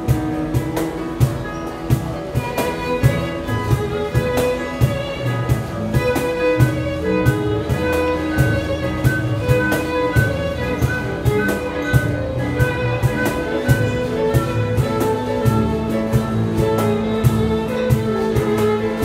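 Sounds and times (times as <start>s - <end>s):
bowed string melody: 0.0s - 19.0s
steady drum beat: 0.0s - 19.0s.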